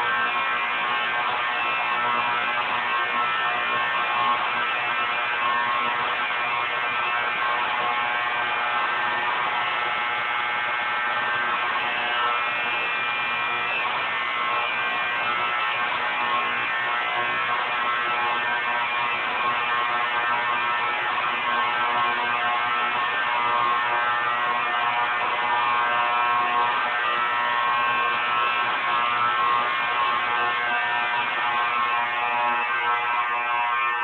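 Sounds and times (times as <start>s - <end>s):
fire alarm buzzing tone: 0.0s - 34.0s.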